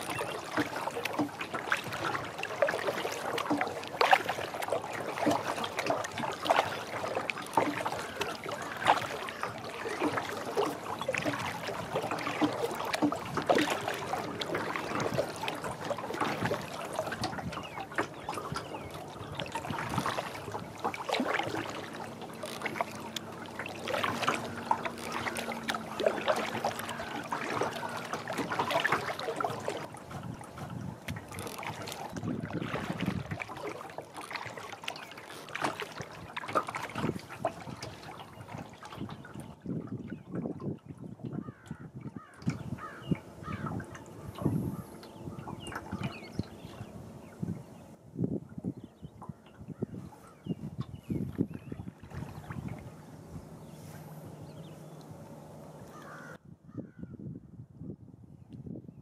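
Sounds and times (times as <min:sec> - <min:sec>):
water lapping against kayak hull: 0:00.0 - 0:57.1.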